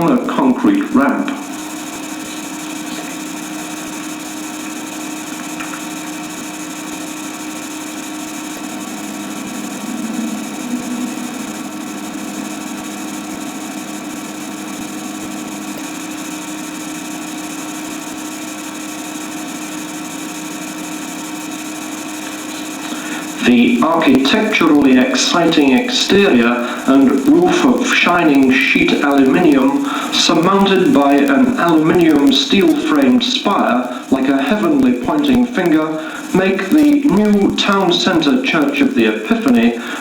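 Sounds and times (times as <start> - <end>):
machine hum and whirr: 0.0 - 40.0.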